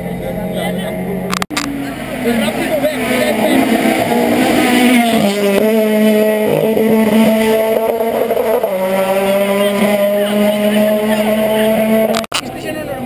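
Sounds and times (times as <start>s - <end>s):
race car engine at high revs: 0.0s - 12.6s.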